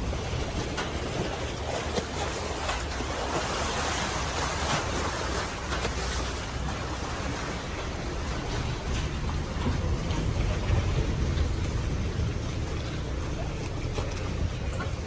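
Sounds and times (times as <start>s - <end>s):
boat engine rumble: 0.0s - 15.0s
water rushing along hull: 0.0s - 15.0s.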